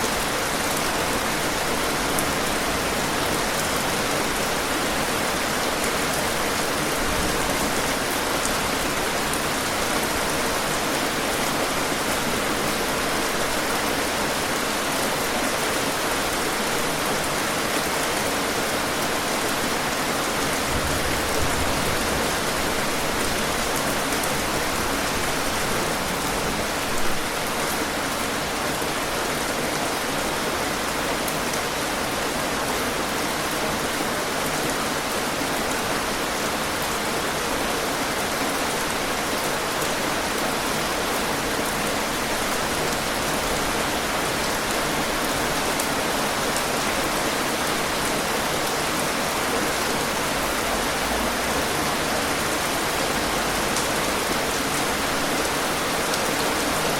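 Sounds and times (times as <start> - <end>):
heavy rainfall: 0.0 - 56.9.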